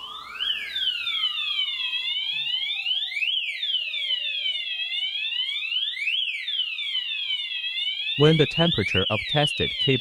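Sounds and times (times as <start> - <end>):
fire alarm siren sweeping: 0.0 - 10.0.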